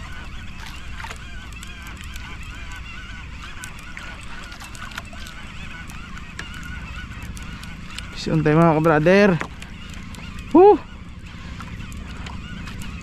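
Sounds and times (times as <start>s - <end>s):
fishing reel whirring: 0.0s - 13.0s
reel clicks: 0.0s - 13.0s
wind and sea rumble: 0.0s - 13.0s.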